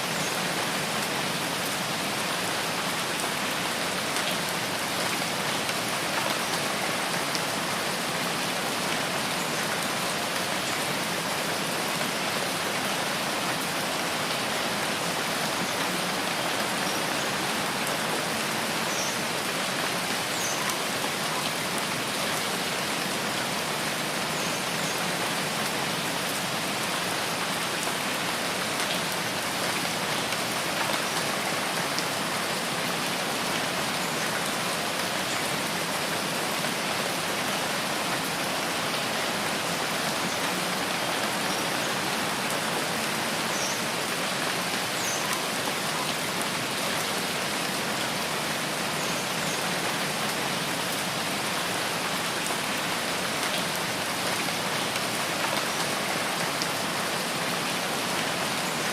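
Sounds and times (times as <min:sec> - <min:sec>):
rain falling on foliage: 0:00.0 - 0:58.9.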